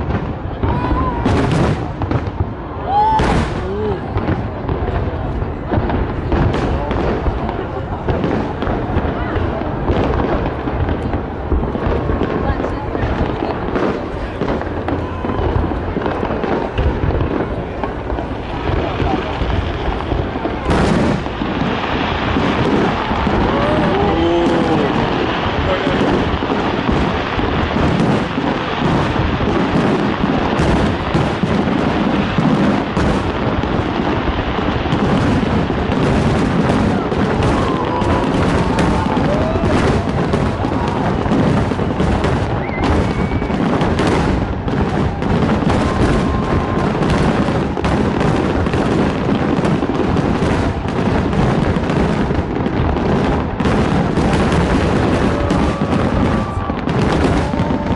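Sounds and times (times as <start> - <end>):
fireworks booms and crackles: 0.0 - 57.9.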